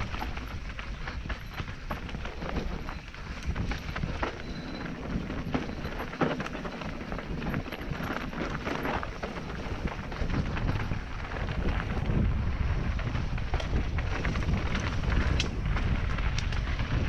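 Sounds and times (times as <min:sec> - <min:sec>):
bike rattling and clattering: 0:00.0 - 0:17.0
tyres crunching over gravel: 0:00.0 - 0:17.0
wind rumble on microphone: 0:00.0 - 0:17.0.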